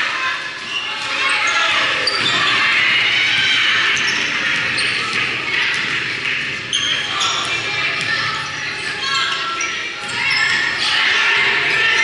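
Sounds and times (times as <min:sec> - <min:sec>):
voices of players and spectators: 0:00.0 - 0:12.0
sneaker squeaks: 0:00.3 - 0:12.0.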